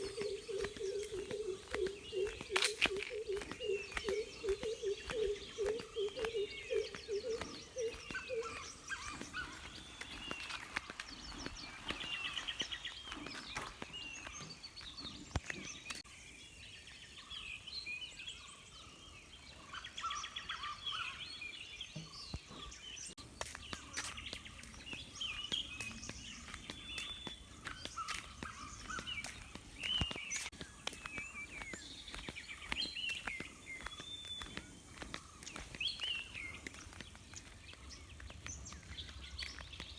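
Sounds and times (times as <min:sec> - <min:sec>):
low repeated bird call: 0:00.0 - 0:16.4, 0:19.6 - 0:39.9
songbirds chirping and trilling: 0:00.0 - 0:39.9.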